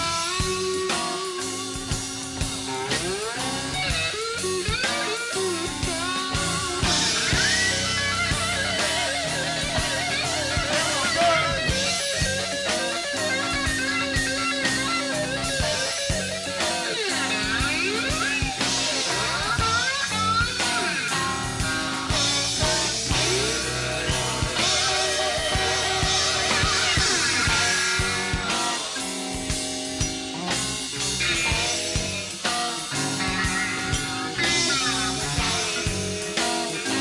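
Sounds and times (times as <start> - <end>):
lead guitar with bends: 0.0 - 37.0
live rock band playing: 0.0 - 37.0.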